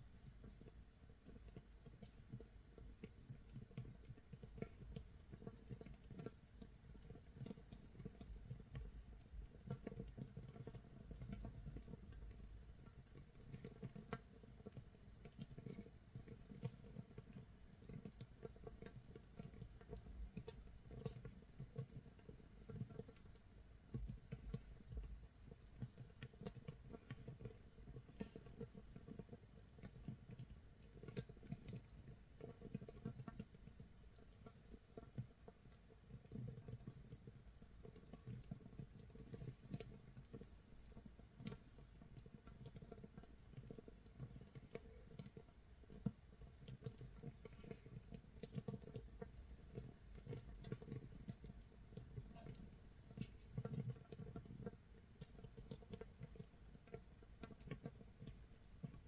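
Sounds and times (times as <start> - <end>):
fermenting mash crackling and popping: 0.0 - 59.0.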